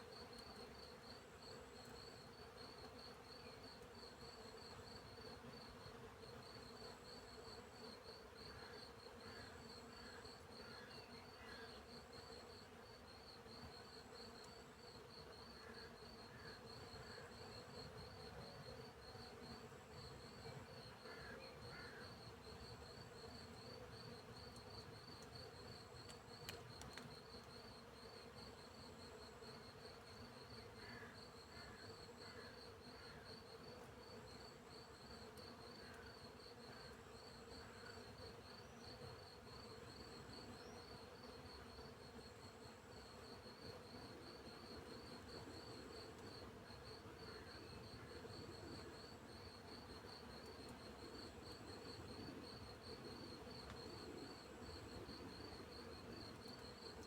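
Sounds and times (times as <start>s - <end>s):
crickets chirping: 6.4s - 57.0s.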